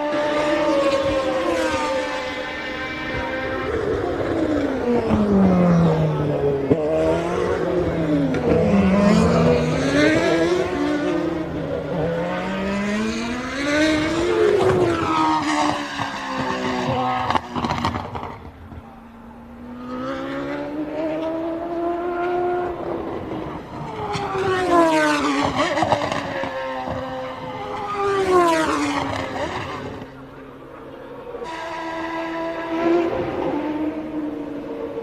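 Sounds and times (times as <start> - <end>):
race cars passing at speed: 0.0 - 35.0.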